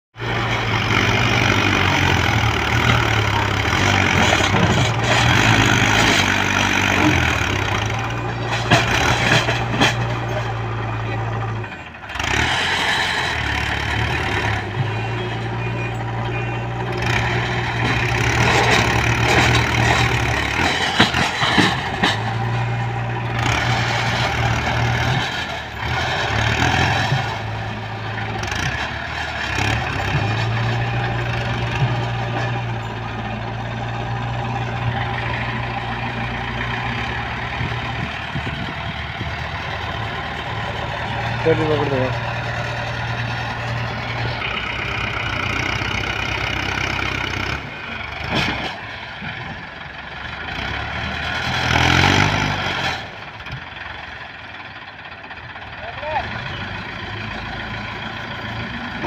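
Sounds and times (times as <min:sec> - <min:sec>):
tractor diesel engine under load: 0:00.1 - 0:59.0.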